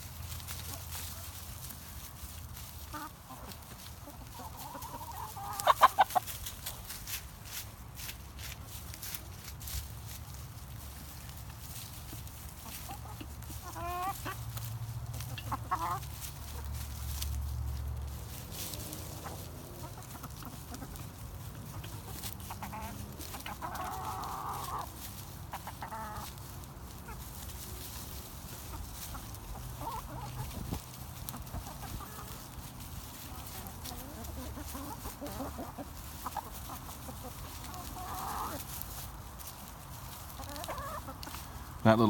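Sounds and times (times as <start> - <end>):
chicken calls: 0.0 - 42.0
chickens clucking: 0.0 - 42.0.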